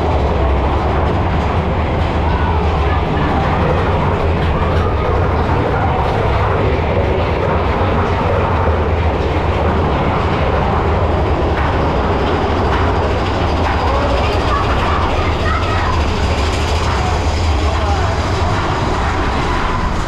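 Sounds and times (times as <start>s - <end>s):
deep low drone: 0.0s - 20.0s
roller coaster wheels rumbling: 0.0s - 20.0s.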